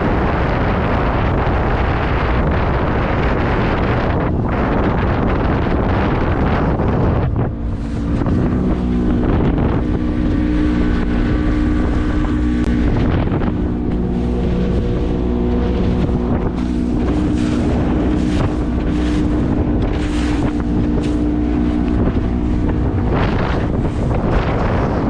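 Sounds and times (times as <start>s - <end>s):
boat motor running: 0.0s - 25.0s
wind buffeting microphone: 0.0s - 25.0s.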